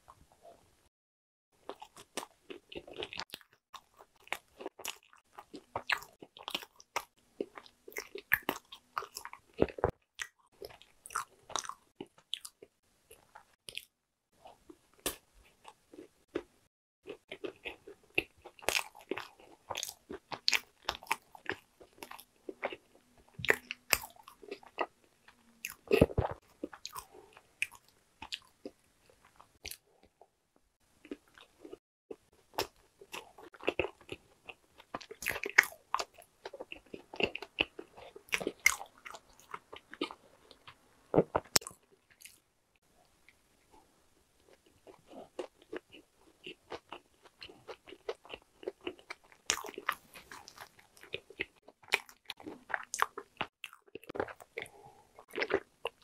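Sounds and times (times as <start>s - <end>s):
crunchy chewing: 1.6s - 16.5s, 17.1s - 30.2s, 32.4s - 42.4s, 44.4s - 56.0s.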